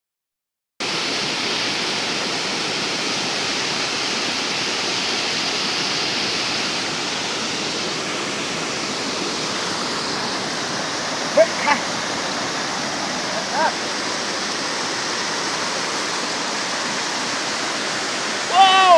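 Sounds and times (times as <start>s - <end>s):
waterfall rushing: 0.8s - 18.9s.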